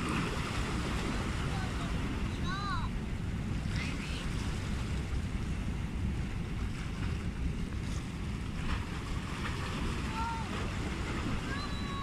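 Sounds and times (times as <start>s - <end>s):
sea swell against rocks: 0.0s - 12.0s
wind buffeting microphone: 0.0s - 12.0s.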